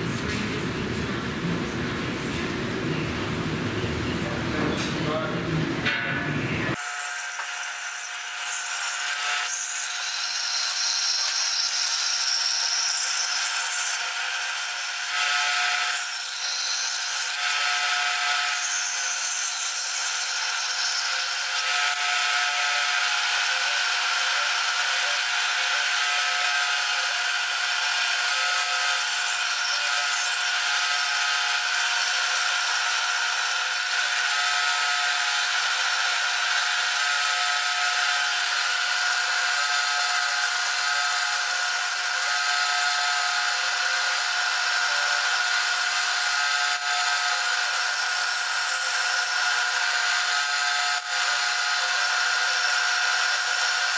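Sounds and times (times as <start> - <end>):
band saw cutting metal: 6.7 - 53.9.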